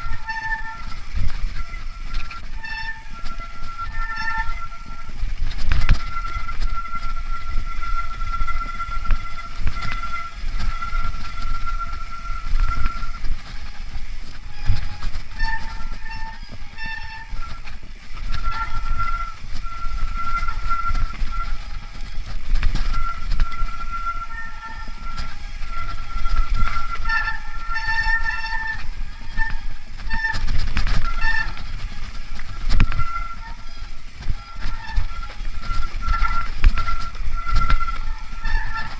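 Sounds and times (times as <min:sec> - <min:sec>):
bike tyres rumbling on dirt: 0:00.0 - 0:38.9
high-pitched bike whine: 0:00.0 - 0:38.9
squealing tones: 0:00.0 - 0:38.9
wind on camera: 0:00.0 - 0:38.9.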